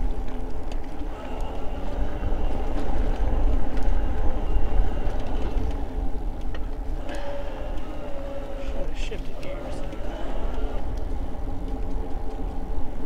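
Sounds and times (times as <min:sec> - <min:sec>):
faint steady hum: 0:00.0 - 0:13.0
tyres rumbling on pavement: 0:00.0 - 0:13.0
wind buffeting microphone: 0:00.0 - 0:13.0.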